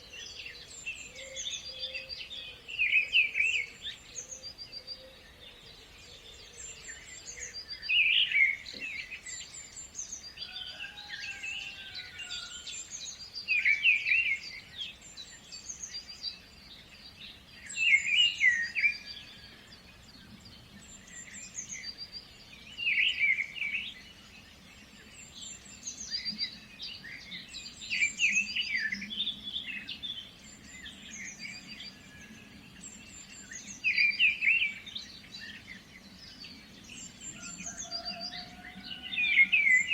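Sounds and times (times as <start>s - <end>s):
loud quick bird song: 0.0s - 39.9s
soft bird chirps and calls: 0.0s - 39.9s.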